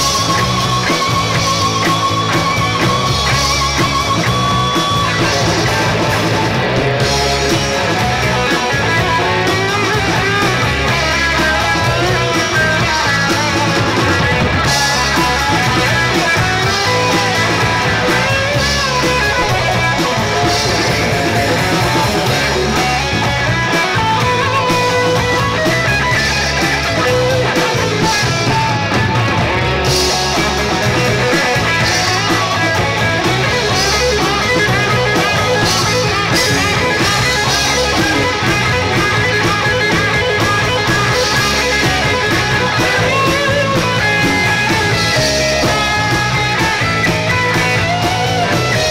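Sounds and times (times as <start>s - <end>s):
bass guitar: 0.0s - 48.9s
drum kit steady beat: 0.0s - 48.9s
electric guitars: 0.0s - 48.9s.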